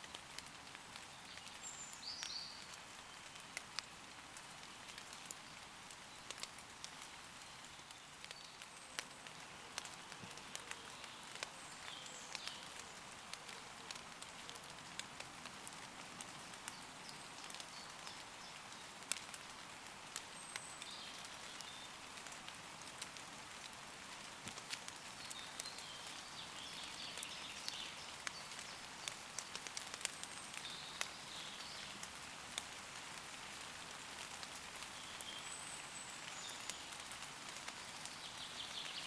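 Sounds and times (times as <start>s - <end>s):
rain falling on leaves: 0.0s - 39.0s.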